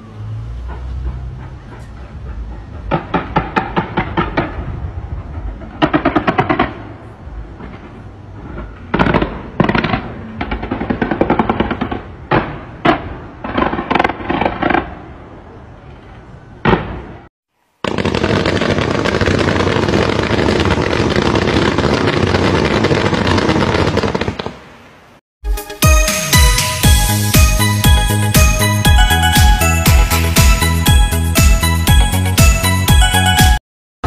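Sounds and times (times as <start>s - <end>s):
fireworks bangs and crackling: 2.4s - 15.2s, 16.6s - 24.9s, 26.0s - 33.5s.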